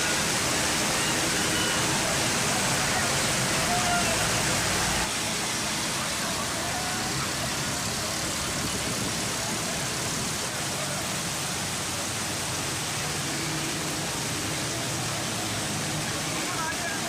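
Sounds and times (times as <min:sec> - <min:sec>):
faint traffic: 0:00.0 - 0:17.0
heavy rain: 0:00.0 - 0:17.0
running water: 0:00.0 - 0:17.0
voices: 0:00.0 - 0:17.0.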